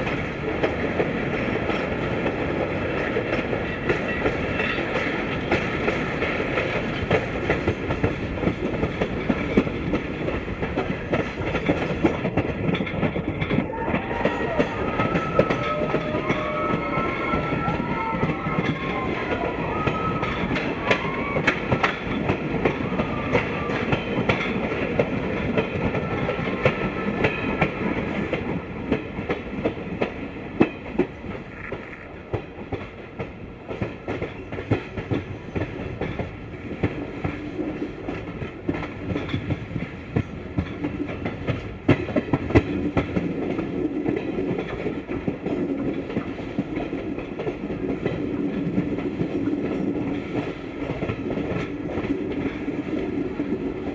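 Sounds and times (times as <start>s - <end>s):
train rumble: 0.0s - 53.9s
train wheels clickety-clack: 0.0s - 53.9s.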